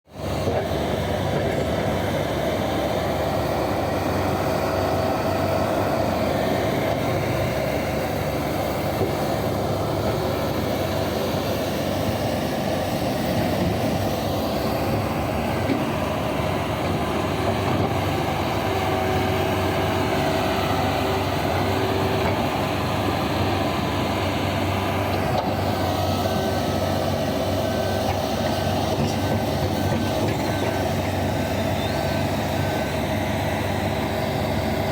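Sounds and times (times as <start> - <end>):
large diesel engines running: 0.1 - 34.9.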